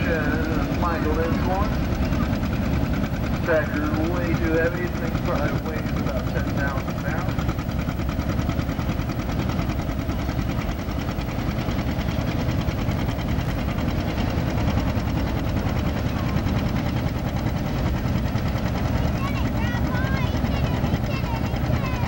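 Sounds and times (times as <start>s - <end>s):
diesel tractor engine running hard: 0.0s - 22.0s
freight train rumbling past: 0.0s - 22.0s.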